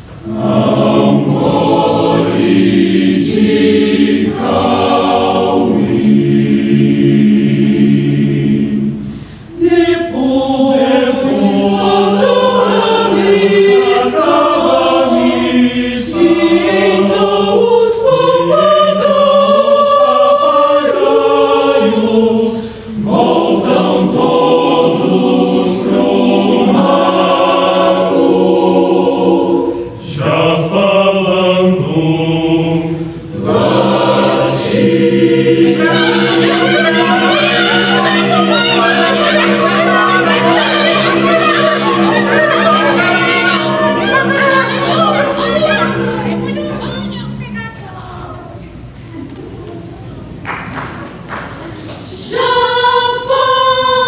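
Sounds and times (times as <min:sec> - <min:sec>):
mixed choir singing in harmony: 0:00.0 - 0:49.1, 0:51.0 - 0:54.0.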